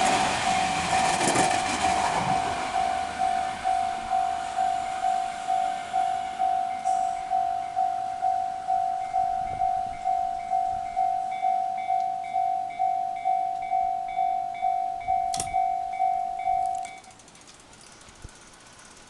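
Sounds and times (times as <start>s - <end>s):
level-crossing electronic bell: 0.4s - 1.0s, 2.2s - 17.0s.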